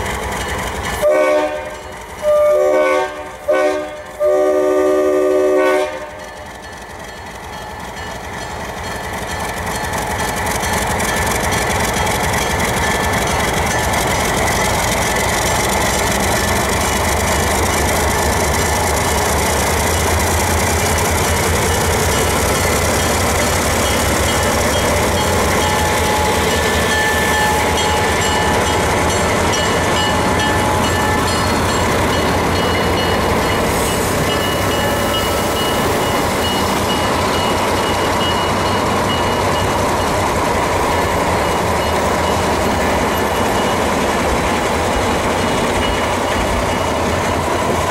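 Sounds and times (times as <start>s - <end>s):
diesel locomotive engine rumble: 0.0s - 47.9s
train wheels on rail: 0.0s - 47.9s.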